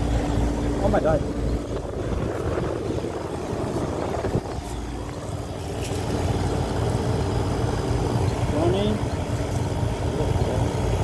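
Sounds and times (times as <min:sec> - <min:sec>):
air conditioner fan humming: 0:00.0 - 0:11.0.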